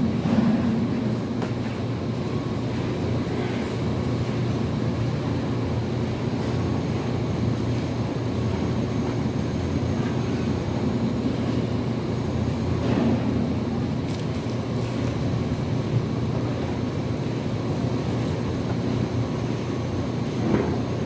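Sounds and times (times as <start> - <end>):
low machine rumble: 0.0 - 21.0.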